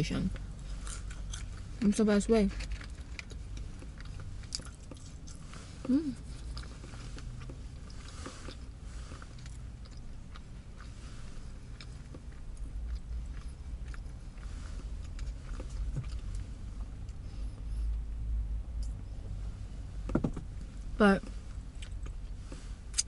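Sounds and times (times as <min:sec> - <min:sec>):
low steady rumble: 0:00.0 - 0:23.0
person chewing a burger: 0:00.4 - 0:01.8, 0:02.5 - 0:18.0, 0:21.3 - 0:23.0.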